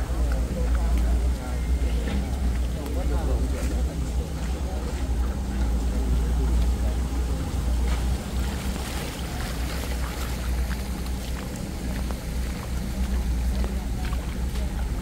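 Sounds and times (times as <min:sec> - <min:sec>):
engine rumbling: 0:00.0 - 0:15.0
faint hum: 0:00.0 - 0:15.0.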